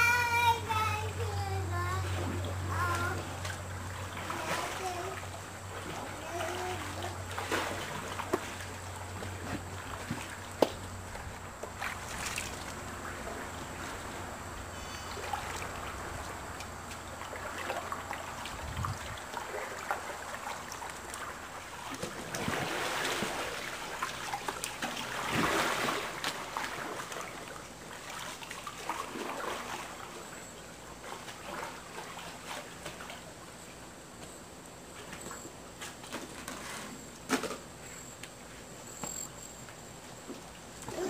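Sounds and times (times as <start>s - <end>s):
paddle splashing pool water: 0.0s - 37.8s.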